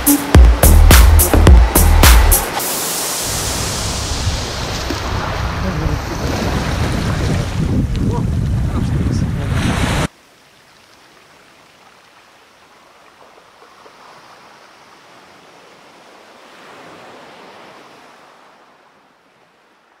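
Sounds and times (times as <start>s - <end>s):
sea surf: 0.0s - 10.1s, 13.8s - 20.0s.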